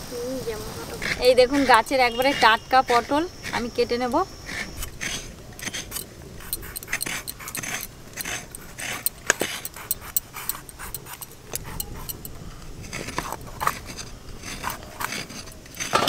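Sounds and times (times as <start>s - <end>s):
blade scraping gourd skin: 0.9s - 16.0s.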